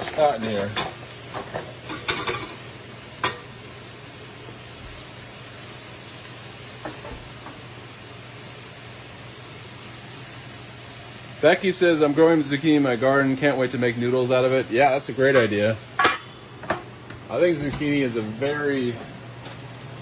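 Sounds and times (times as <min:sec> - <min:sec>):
sausage sizzling in a frying pan: 0:00.0 - 0:17.5.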